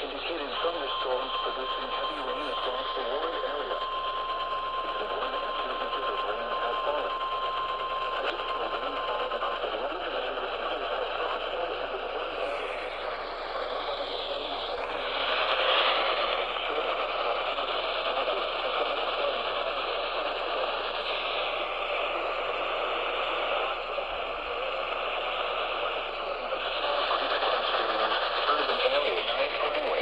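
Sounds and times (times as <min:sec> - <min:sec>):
radio static hiss and crackle: 0:00.0 - 0:30.0.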